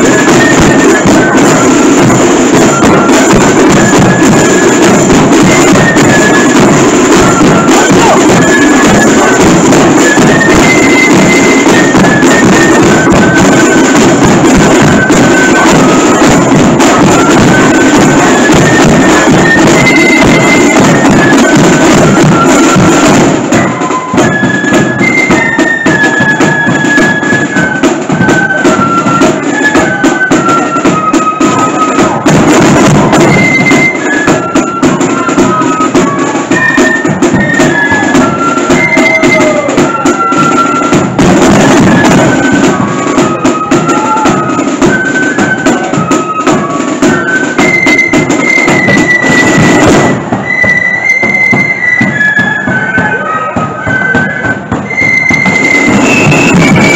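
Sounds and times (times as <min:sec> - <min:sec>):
flute melody: 0:00.0 - 0:56.9
snare and bass drums: 0:00.0 - 0:56.9.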